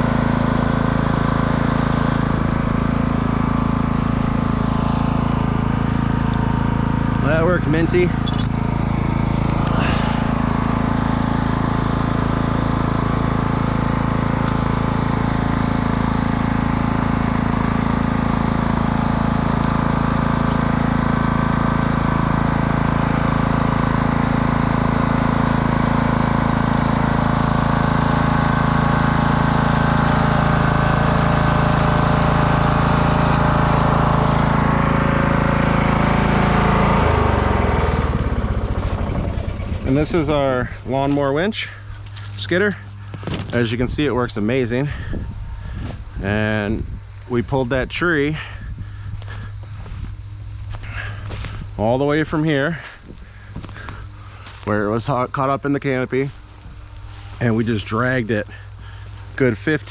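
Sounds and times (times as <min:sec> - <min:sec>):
riding lawnmower engine running: 0:00.0 - 0:59.9.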